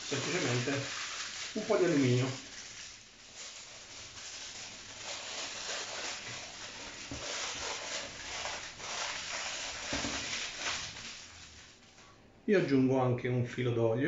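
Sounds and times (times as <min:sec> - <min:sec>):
aluminium foil crinkling: 0:00.0 - 0:12.2.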